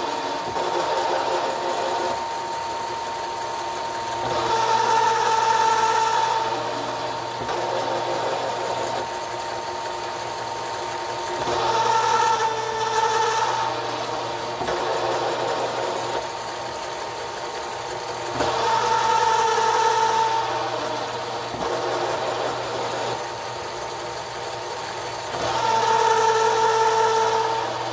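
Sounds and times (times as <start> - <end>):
high machine whine: 0.0 - 27.9
milling machine hum: 0.0 - 27.9.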